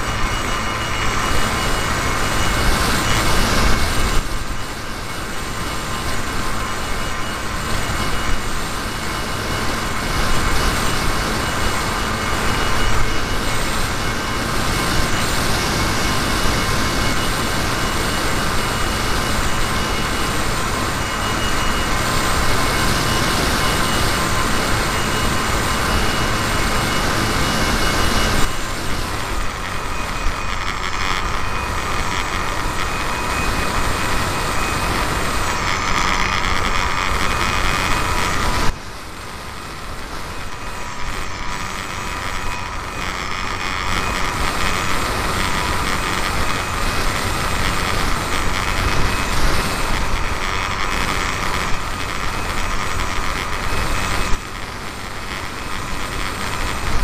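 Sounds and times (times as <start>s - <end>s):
model airplane motor whining: 0.0s - 57.0s.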